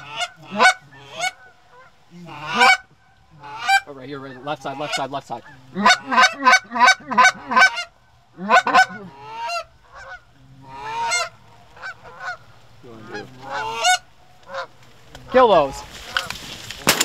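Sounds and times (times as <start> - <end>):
goose honking and clucking: 0.0 - 16.4.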